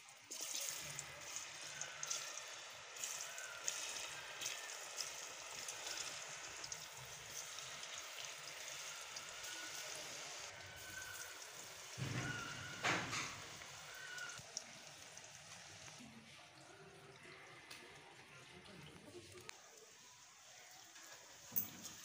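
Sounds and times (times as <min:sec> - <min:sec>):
fries deep-frying in oil: 0:00.0 - 0:22.0.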